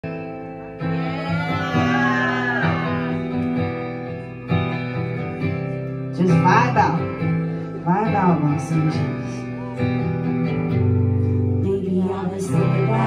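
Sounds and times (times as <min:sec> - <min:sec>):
guitar playing chords: 0:00.0 - 0:13.0.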